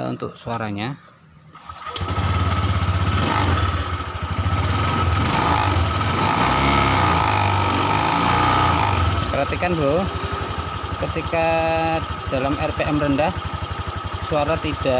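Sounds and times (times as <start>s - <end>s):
scooter engine running: 1.6s - 14.9s.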